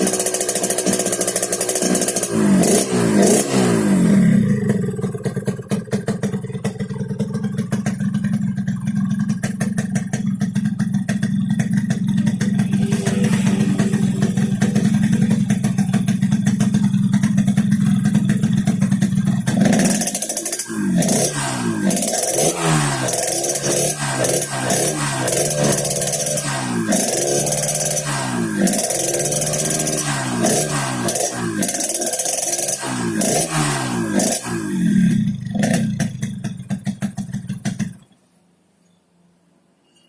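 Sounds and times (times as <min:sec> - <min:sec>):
motorcycle engine revving and idling: 0:00.0 - 0:38.2.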